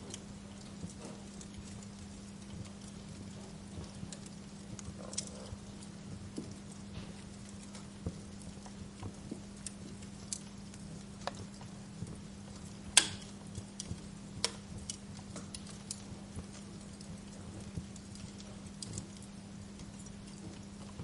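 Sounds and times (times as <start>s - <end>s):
steady low hum: 0.0s - 21.0s
wood fire crackling and popping: 0.0s - 21.0s.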